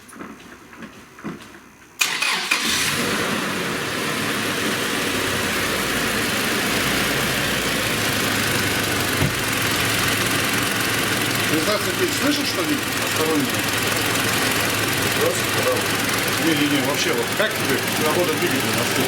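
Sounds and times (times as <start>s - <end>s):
car engine cranking: 2.0s - 19.0s
car engine idling: 2.0s - 19.0s.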